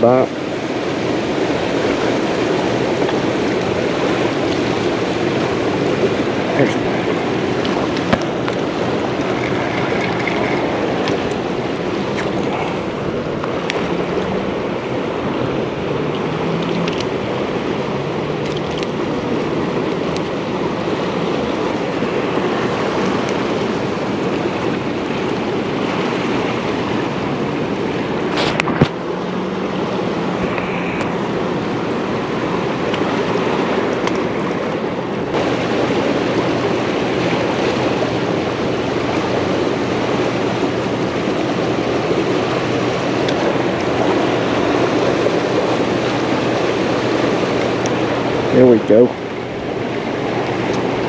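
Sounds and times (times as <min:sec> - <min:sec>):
turbulent water rushing: 0:00.0 - 0:51.0.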